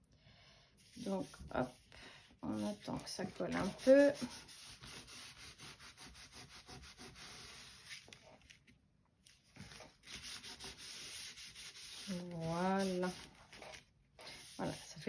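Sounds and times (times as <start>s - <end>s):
cloth scrubbing on cardstock: 0.8s - 8.1s, 9.6s - 15.0s.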